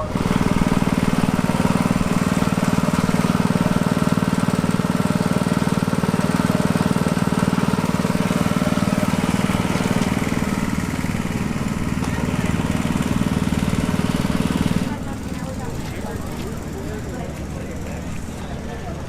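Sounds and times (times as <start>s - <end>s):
small engine running steadily: 0.0s - 19.0s.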